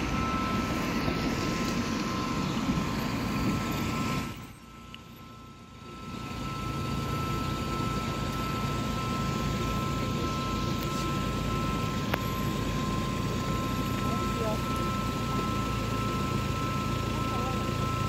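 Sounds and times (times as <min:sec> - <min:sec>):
level crossing two-note warning tone: 0:00.0 - 0:18.0
low drone: 0:00.0 - 0:18.0.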